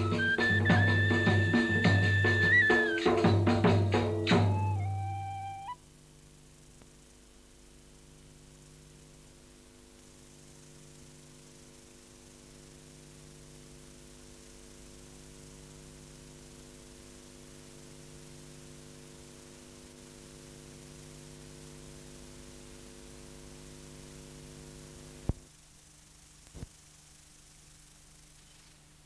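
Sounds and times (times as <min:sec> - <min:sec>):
electrical mains hum and hiss: 0:00.0 - 0:29.0.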